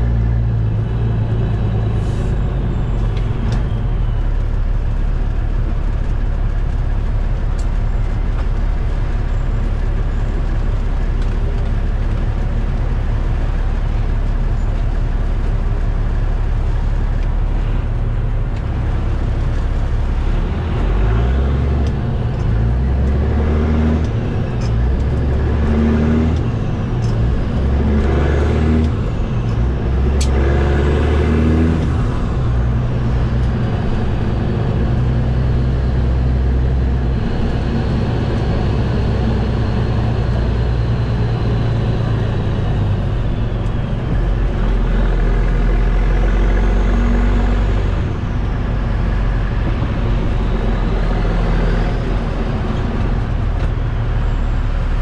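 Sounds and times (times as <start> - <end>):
truck diesel engine under load: 0.0 - 55.0.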